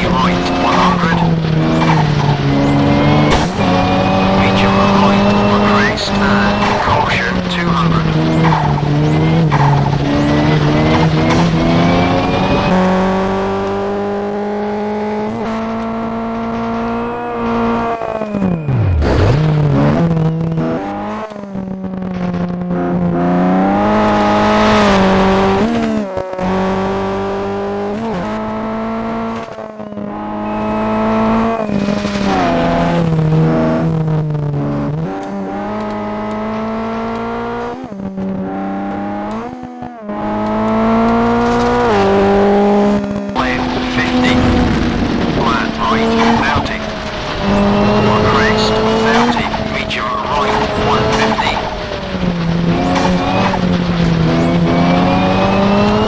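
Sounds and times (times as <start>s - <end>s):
turbocharged car engine revving: 0.0s - 56.0s.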